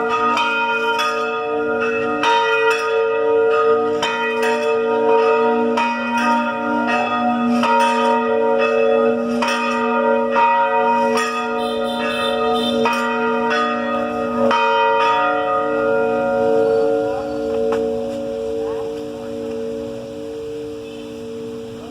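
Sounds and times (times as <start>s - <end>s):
church bells ringing a peal: 0.0s - 21.9s.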